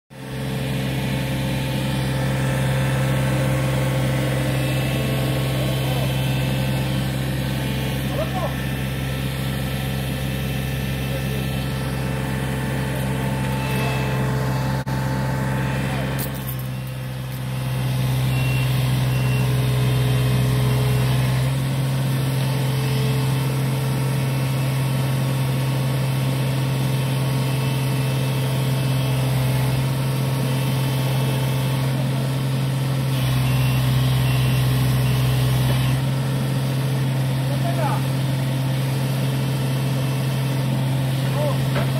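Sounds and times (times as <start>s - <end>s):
excavator diesel engine running: 0.2s - 41.9s.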